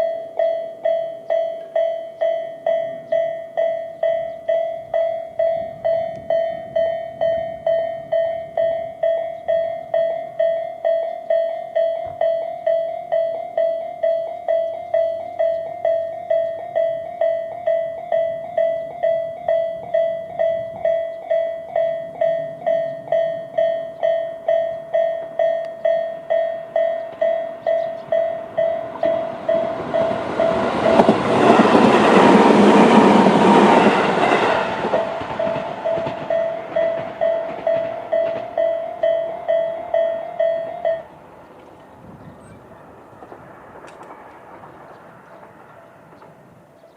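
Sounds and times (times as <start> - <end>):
electric train wheels rushing: 0.0 - 46.9
level crossing warning bells: 0.0 - 46.9.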